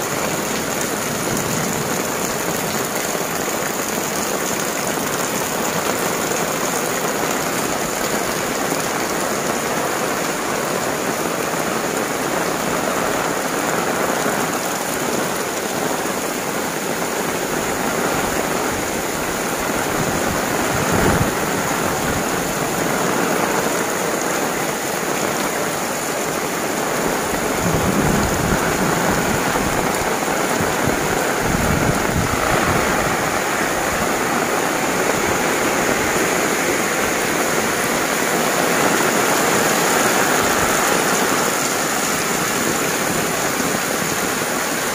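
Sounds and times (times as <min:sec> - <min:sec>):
heavy rain: 0:00.0 - 0:44.9.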